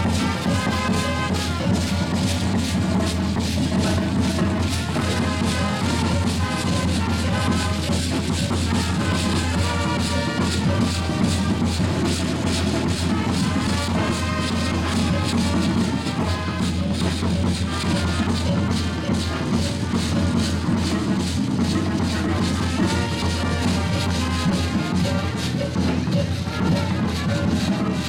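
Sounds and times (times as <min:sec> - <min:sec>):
large drum beating: 0:00.0 - 0:28.0.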